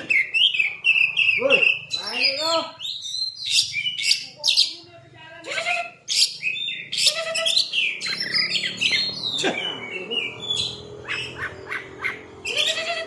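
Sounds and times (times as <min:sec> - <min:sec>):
bird singing whistles and trills: 0:00.0 - 0:04.7, 0:06.1 - 0:12.8.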